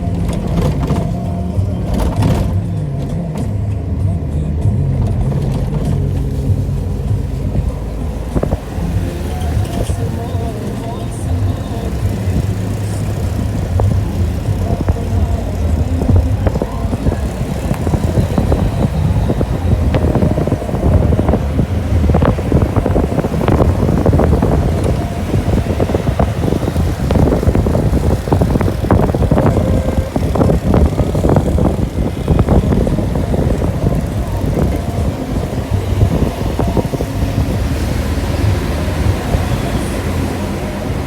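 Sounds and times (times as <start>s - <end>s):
road traffic: 0.0s - 41.0s
wind buffeting microphone: 0.0s - 41.0s.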